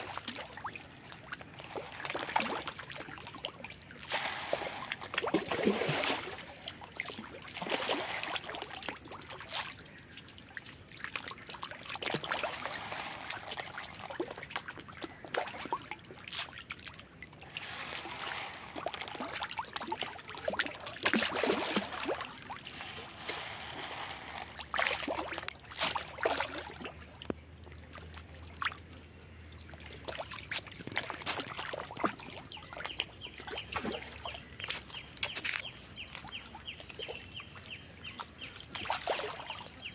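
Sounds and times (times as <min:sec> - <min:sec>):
fish splashing and slurping: 0:00.0 - 0:39.9.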